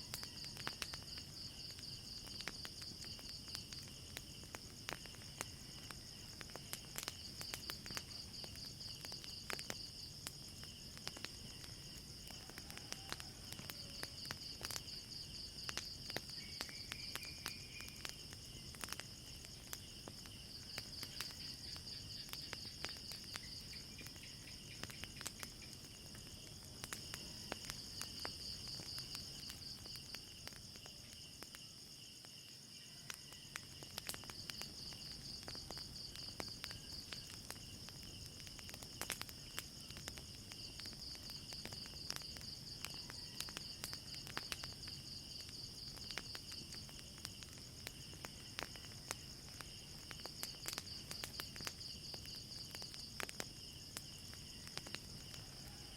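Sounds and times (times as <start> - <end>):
wood fire popping and crackling: 0.0 - 55.8
crickets chirping: 0.0 - 55.9.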